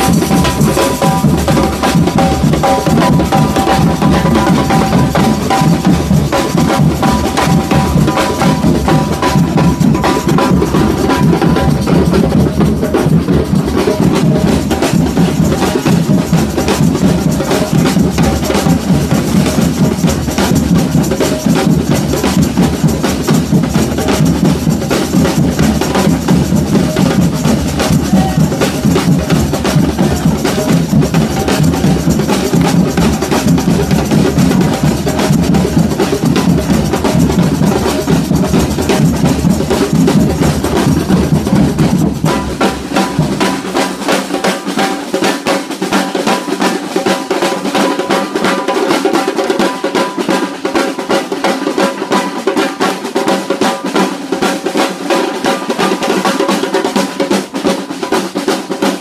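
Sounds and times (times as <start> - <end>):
samba band drumming: 0.0 - 59.0.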